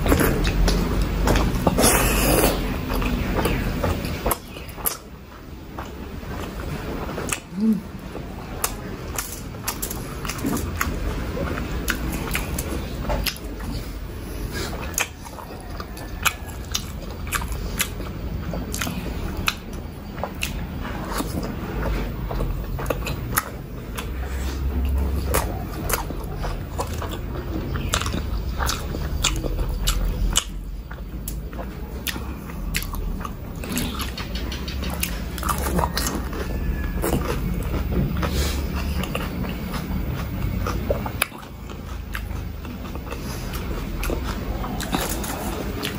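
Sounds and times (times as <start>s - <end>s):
chewing soft food: 0.0s - 45.9s.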